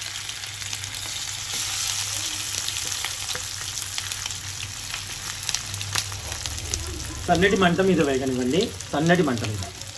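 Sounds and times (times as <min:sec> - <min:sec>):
chicken frying in hot oil: 0:00.0 - 0:09.9.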